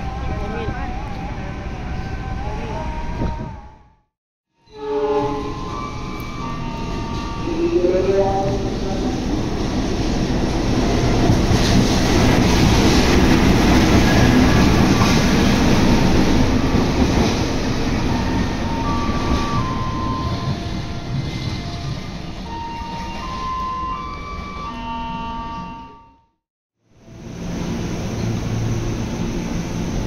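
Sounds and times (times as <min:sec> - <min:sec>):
train rumbling past: 0:04.6 - 0:26.0, 0:26.9 - 0:30.0.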